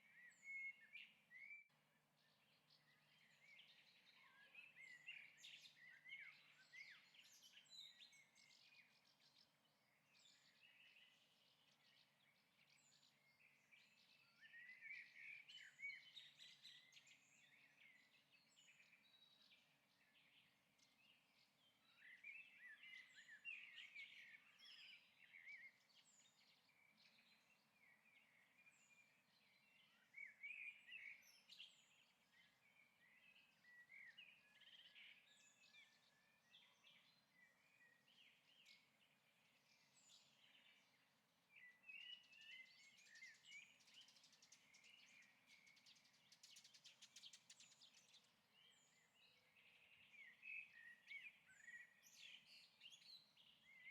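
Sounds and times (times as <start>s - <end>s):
faint birds chirping: 0.0s - 53.9s.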